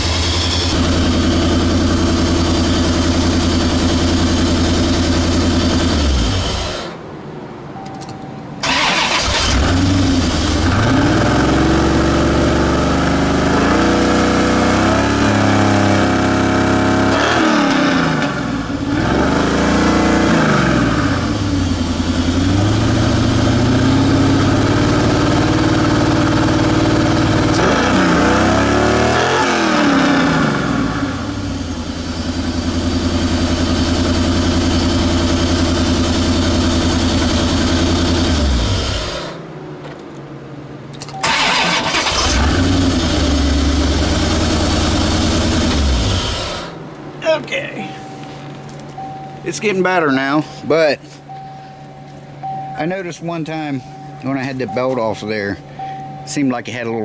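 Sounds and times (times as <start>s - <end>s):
car engine revving and idling: 0.0s - 7.2s, 8.6s - 47.2s.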